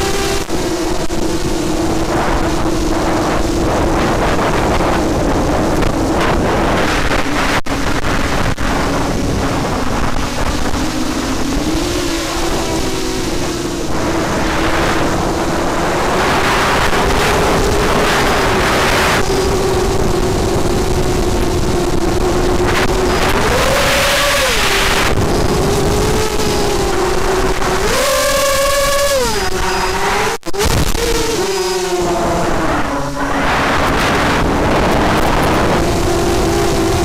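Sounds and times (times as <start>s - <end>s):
drone propellers whining: 0.0s - 37.0s
wind rushing over microphone: 0.0s - 37.0s.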